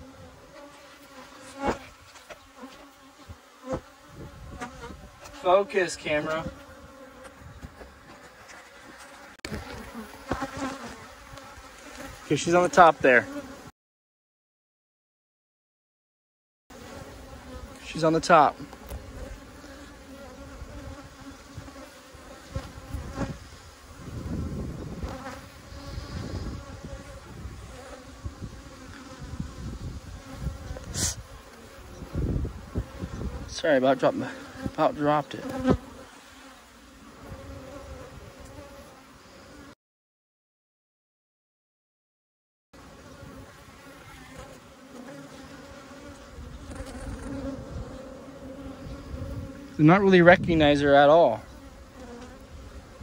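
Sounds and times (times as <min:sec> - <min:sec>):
honey bees buzzing: 0:00.0 - 0:13.7, 0:16.7 - 0:39.8, 0:42.8 - 0:53.0.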